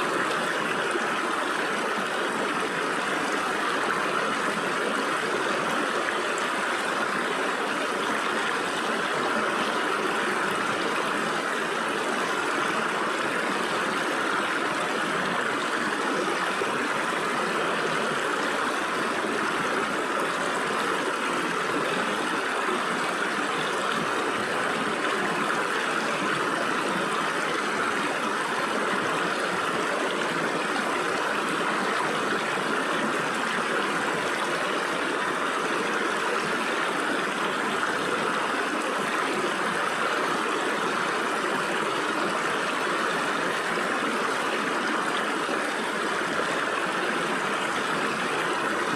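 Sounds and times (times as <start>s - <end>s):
stream water flowing over rocks: 0.0s - 48.9s.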